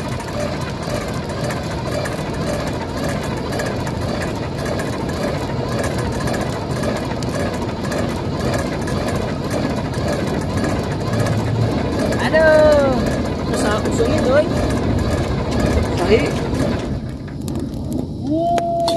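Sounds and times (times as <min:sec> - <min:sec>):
handheld blower running: 0:00.0 - 0:18.1.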